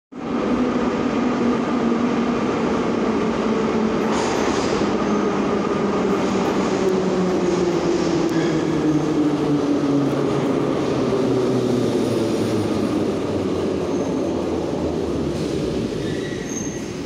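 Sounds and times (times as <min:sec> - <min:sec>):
metro train rumbling: 0:00.1 - 0:17.0
train whine: 0:00.2 - 0:17.0.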